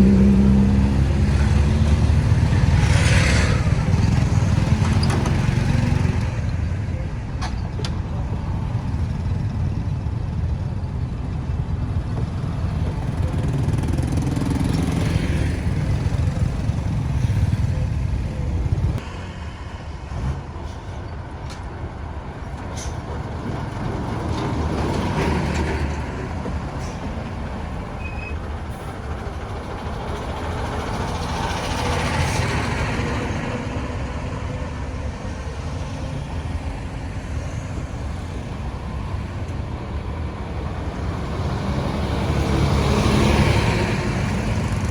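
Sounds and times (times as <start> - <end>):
road traffic rumble: 0.0 - 44.9
vehicles passing: 0.0 - 44.9.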